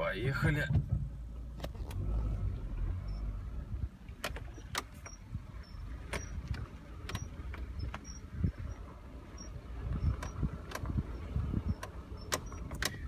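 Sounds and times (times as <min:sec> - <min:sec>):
low road rumble: 0:00.0 - 0:13.0
suspension squeaking and creaking: 0:00.3 - 0:13.0.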